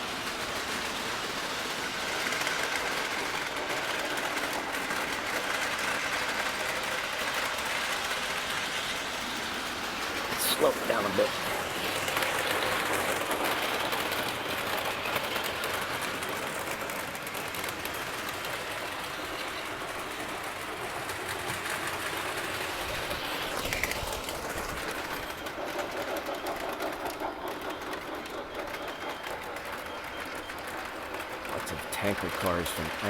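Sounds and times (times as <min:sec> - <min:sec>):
wheels rattling on rails: 0:00.0 - 0:33.0.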